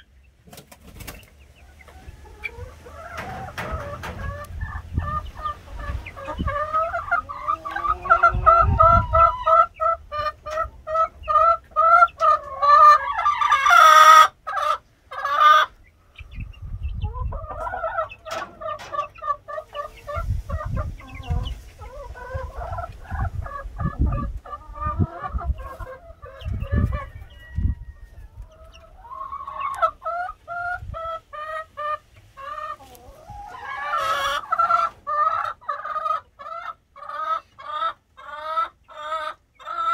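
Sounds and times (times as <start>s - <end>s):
chicks cheeping: 0.0s - 39.9s.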